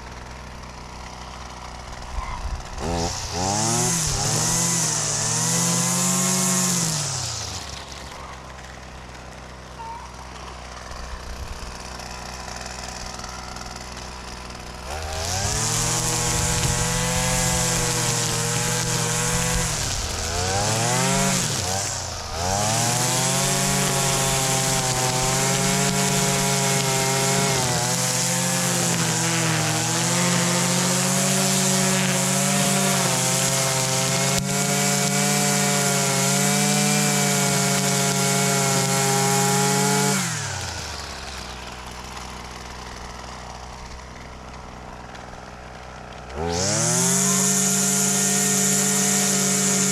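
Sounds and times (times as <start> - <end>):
string trimmer engine revving: 0.0 - 49.9.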